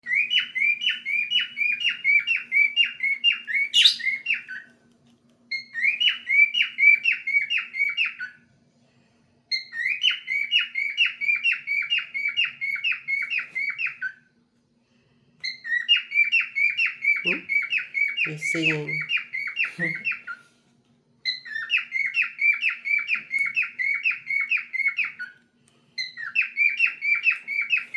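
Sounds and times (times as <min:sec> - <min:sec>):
cockatiel whistling: 0:00.0 - 0:04.7, 0:05.5 - 0:08.4, 0:09.5 - 0:14.2, 0:15.4 - 0:20.4, 0:21.2 - 0:25.4, 0:26.0 - 0:27.9
faint steady hum: 0:00.0 - 0:27.9.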